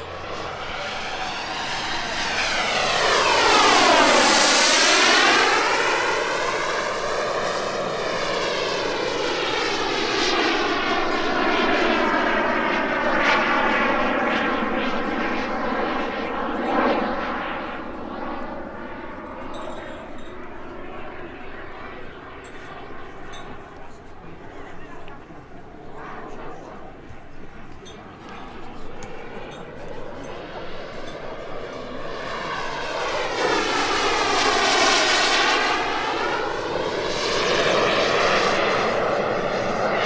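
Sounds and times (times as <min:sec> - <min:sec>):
model jet turbine flyby: 0:00.0 - 0:40.0.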